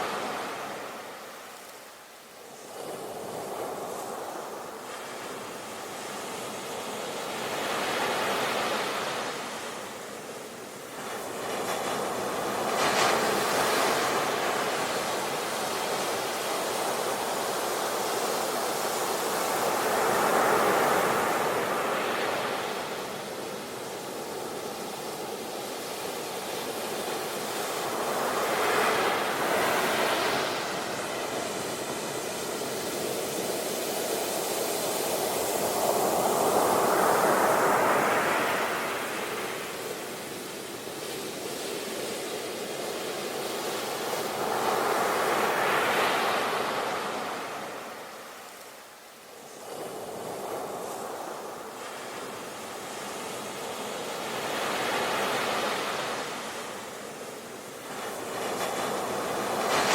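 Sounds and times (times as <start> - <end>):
sea waves breaking on beach: 2.6 - 59.9.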